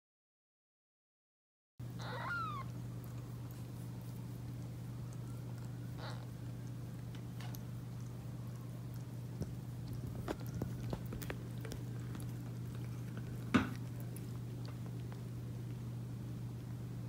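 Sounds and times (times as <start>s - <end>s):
steady low hum: 1.8s - 17.0s
cat licking kitten wet clicks: 2.7s - 16.8s.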